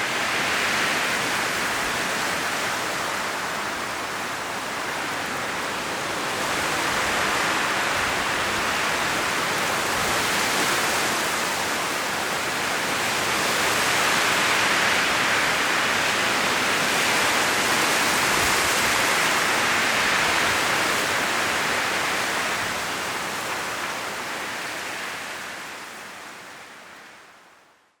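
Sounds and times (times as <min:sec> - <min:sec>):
strong wind rustling leaves: 0:00.0 - 0:28.0.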